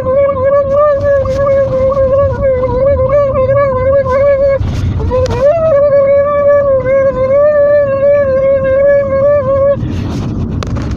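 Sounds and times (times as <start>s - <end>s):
low rumble: 0.0s - 10.9s
noisy rush: 0.0s - 10.9s.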